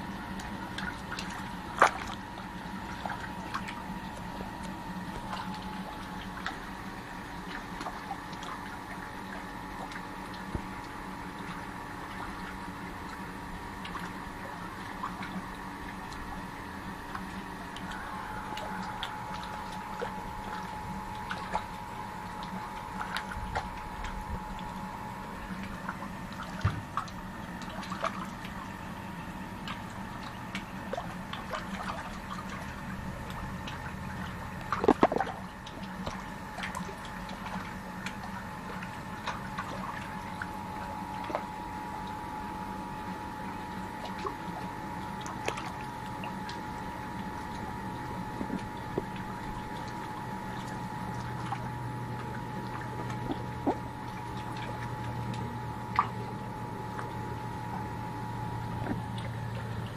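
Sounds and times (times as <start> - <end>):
steady hum: 0.0 - 59.9
fish splashing in pond: 0.1 - 59.9.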